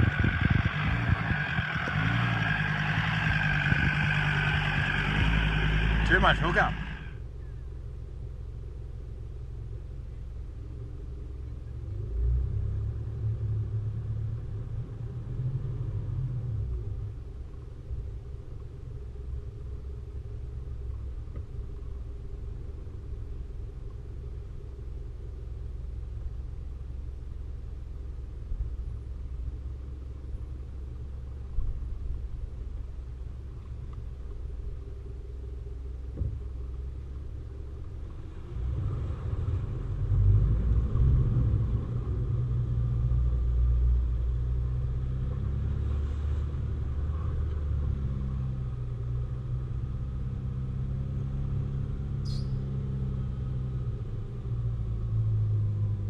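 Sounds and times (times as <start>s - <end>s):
vehicle engine and drivetrain rumble: 0.0s - 56.0s.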